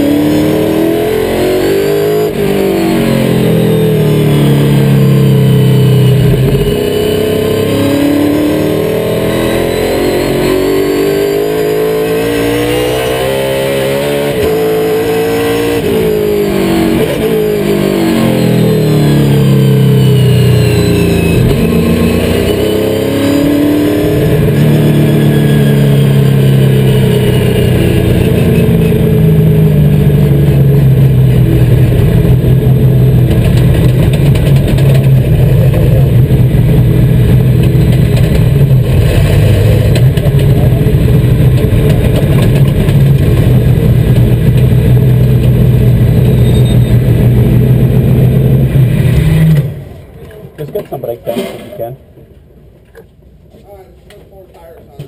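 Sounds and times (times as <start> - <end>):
race car engine running loud: 0.0 - 49.8.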